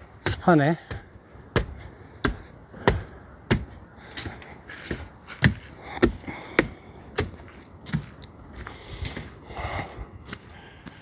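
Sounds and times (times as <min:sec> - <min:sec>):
footsteps climbing wooden stairs: 0:00.0 - 0:11.0.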